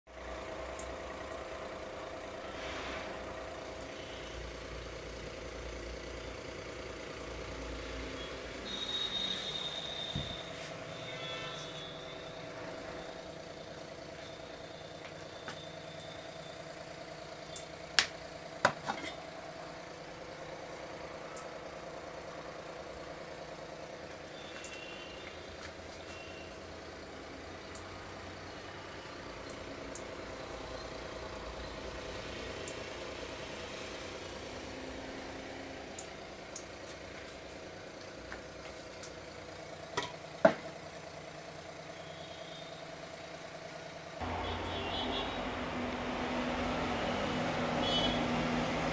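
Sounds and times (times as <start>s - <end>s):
mechanical hum: 0.1s - 48.9s.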